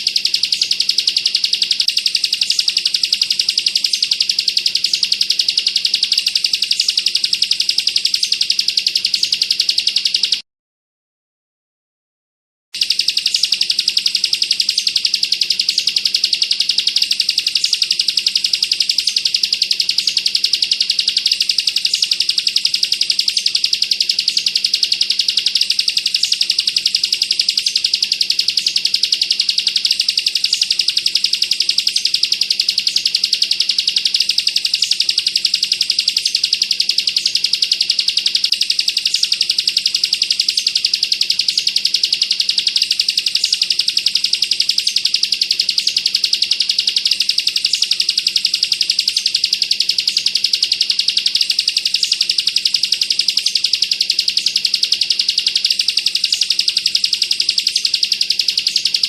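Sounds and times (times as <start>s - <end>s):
bird high rapid trill: 0.0s - 10.4s, 12.8s - 59.0s.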